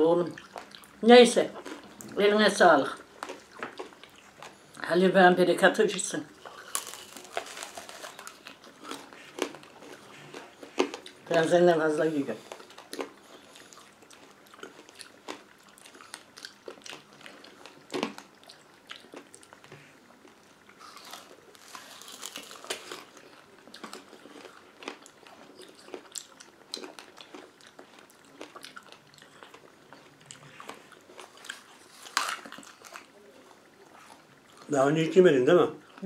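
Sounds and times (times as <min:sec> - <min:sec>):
candy apple crunching: 0:00.1 - 0:04.9, 0:06.0 - 0:34.8.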